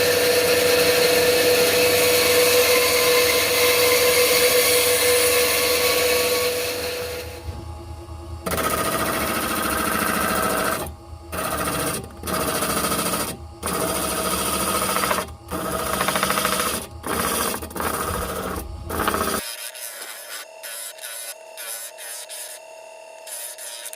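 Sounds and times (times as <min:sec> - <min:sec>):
electric sander grinding: 0:00.0 - 0:07.5, 0:08.4 - 0:23.9.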